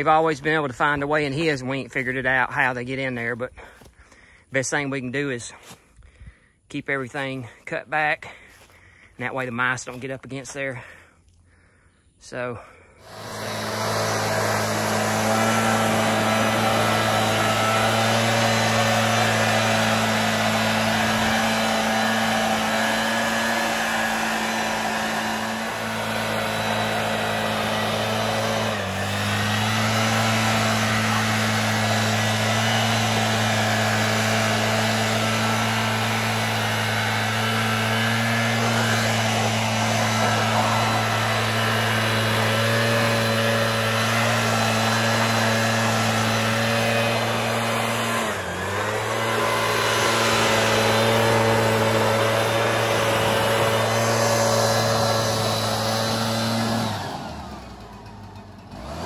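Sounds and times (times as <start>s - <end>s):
leaf blower engine running: 0.0s - 59.0s.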